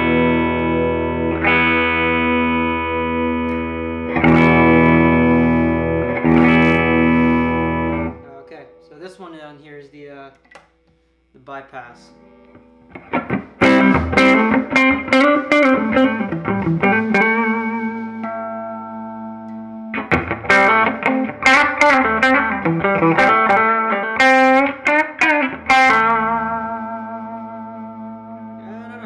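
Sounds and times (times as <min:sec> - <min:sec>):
electric guitar notes and chords: 0:00.0 - 0:08.9, 0:12.2 - 0:29.0.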